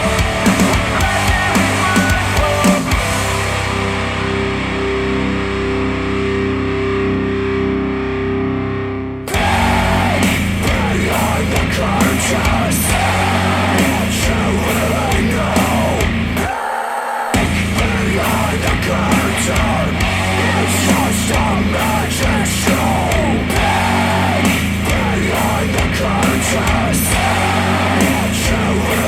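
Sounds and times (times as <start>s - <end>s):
full band with drums: 0.0s - 5.8s, 9.3s - 16.6s, 17.3s - 29.0s
sustained guitar chords: 0.0s - 16.4s, 17.4s - 29.0s
rock music from speakers: 0.0s - 16.5s, 17.3s - 29.0s.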